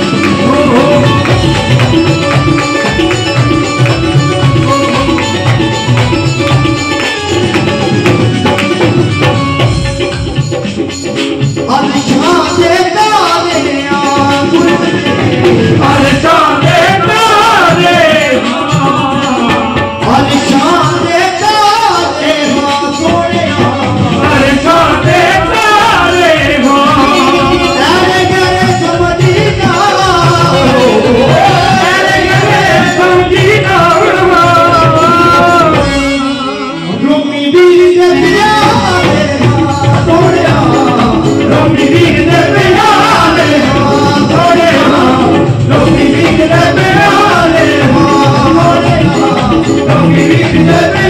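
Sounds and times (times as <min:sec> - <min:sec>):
hand percussion: 0:00.0 - 0:51.0
keyboard: 0:00.0 - 0:51.0
men singing through loudspeakers: 0:00.0 - 0:51.0.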